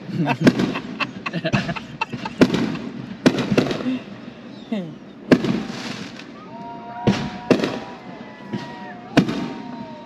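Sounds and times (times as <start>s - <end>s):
fireworks bursting: 0.0s - 4.2s, 5.2s - 10.0s.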